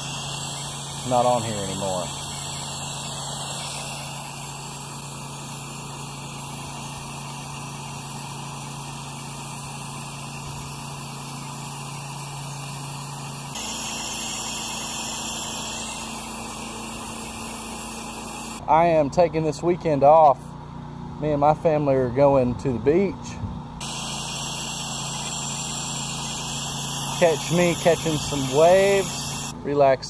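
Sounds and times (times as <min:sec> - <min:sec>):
water jet hissing on siding: 0:00.0 - 0:18.6, 0:23.8 - 0:29.6
pressure washer engine hum: 0:00.0 - 0:22.0, 0:23.8 - 0:30.0.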